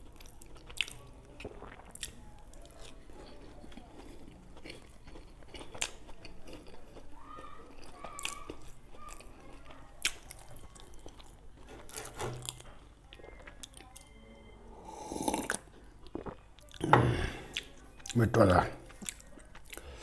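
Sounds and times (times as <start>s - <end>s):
wet chewing: 0.0s - 14.1s, 15.1s - 20.0s.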